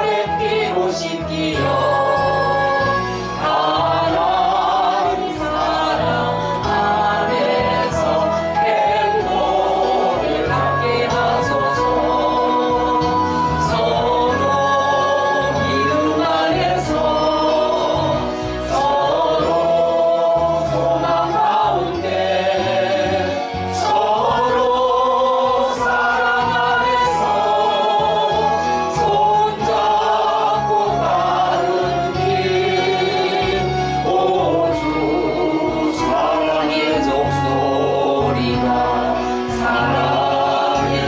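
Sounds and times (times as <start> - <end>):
instrumental accompaniment: 0.0 - 41.0.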